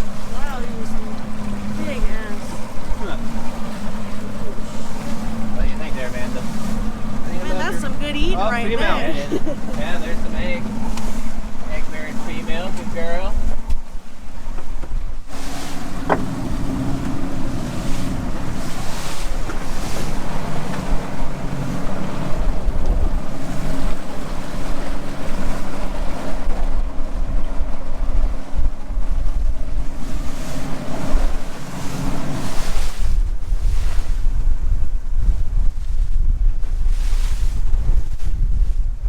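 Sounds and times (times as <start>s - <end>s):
boat engine running: 0.0s - 39.0s
wind buffeting microphone: 0.0s - 39.0s.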